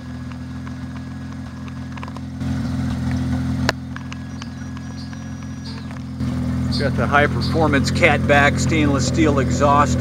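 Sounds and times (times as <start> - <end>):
rotary engine idling: 0.0 - 10.0.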